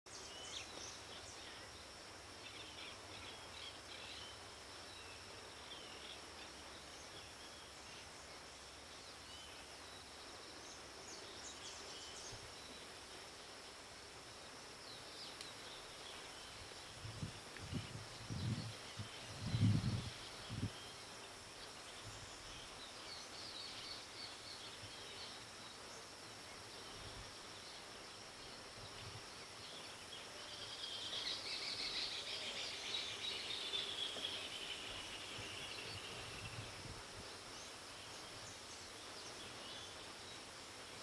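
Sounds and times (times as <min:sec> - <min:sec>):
high insect drone: 0:00.1 - 0:41.0.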